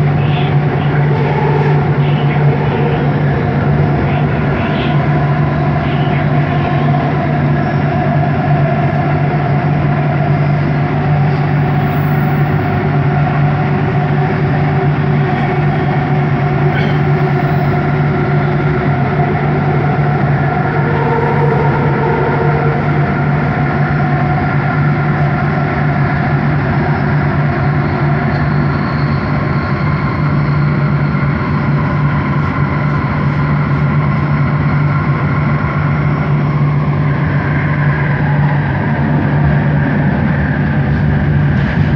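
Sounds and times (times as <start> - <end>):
metro train motor hum: 0.0 - 41.9
train rolling on track: 0.0 - 41.9.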